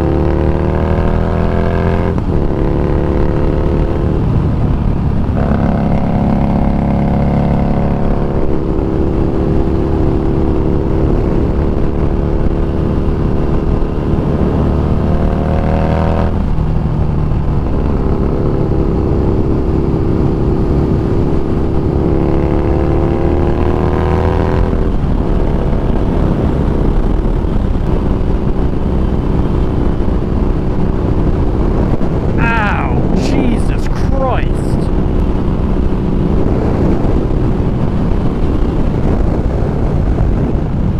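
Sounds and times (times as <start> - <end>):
motorcycle engine revving: 0.0 - 33.2, 34.8 - 40.9.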